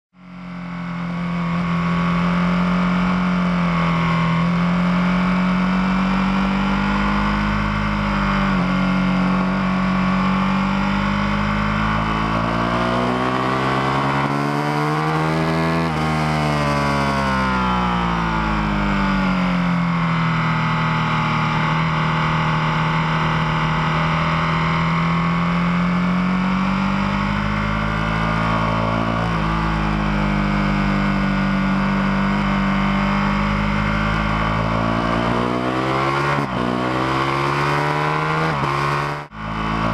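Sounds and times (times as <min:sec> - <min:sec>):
motorcycle engine running hard: 0:00.2 - 0:39.9.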